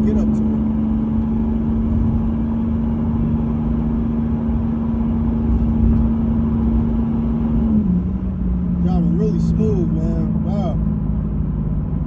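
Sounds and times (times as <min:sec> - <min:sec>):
car engine drone: 0:00.0 - 0:12.0
road rumble: 0:00.0 - 0:12.0.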